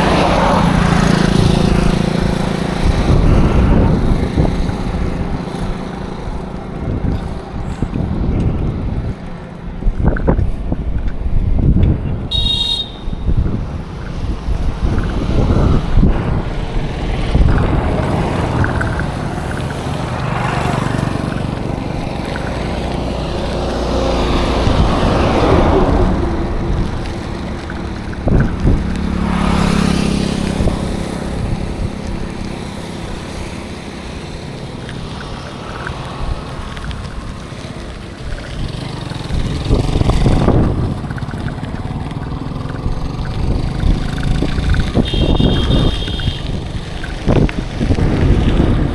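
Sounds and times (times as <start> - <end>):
road traffic rumble: 0.0 - 48.9
vehicle engines running: 0.0 - 48.9
wind on microphone: 0.0 - 48.9.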